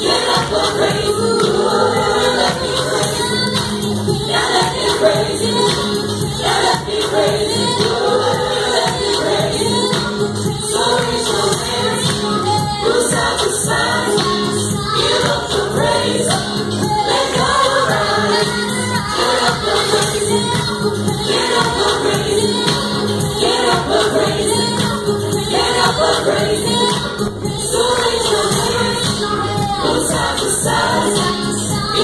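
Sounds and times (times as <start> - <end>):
group singing worship song: 0.0 - 32.0.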